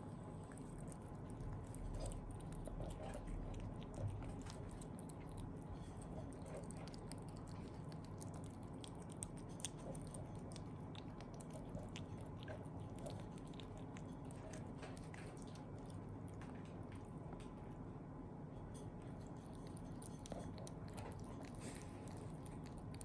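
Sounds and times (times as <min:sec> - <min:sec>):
pet chewing crunchy food: 0:00.0 - 0:23.0.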